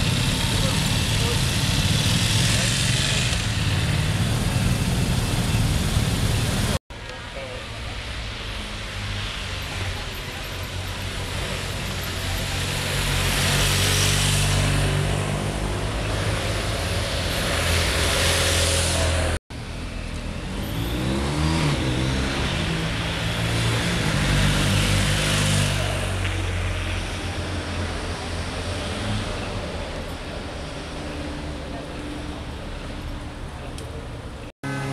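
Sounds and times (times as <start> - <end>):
vehicles passing on a street: 0.0 - 34.9.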